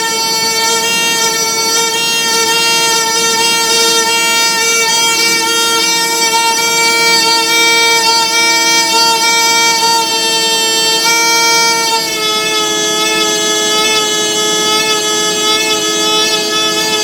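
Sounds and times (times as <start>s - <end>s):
valve whistling howl: 0.0s - 17.0s.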